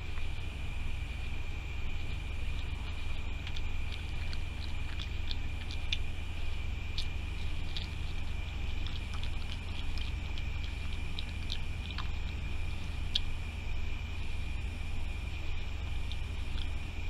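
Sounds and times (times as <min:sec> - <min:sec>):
raccoon chewing food: 0:00.0 - 0:17.0.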